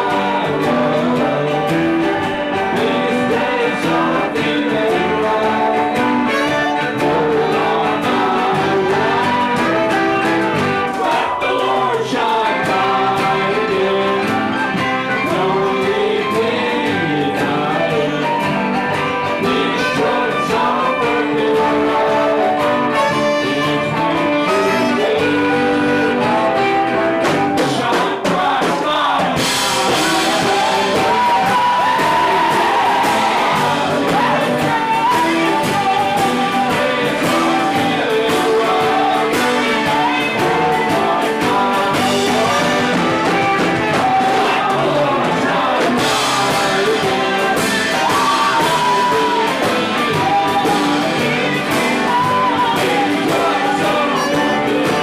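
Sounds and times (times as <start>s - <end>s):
live band playing a song: 0.0s - 55.0s.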